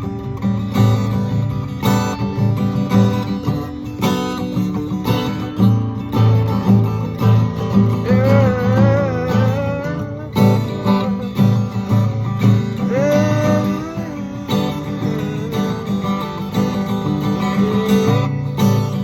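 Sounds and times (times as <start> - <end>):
acoustic guitar strumming: 0.0 - 19.0
wordless sung notes: 2.8 - 19.0.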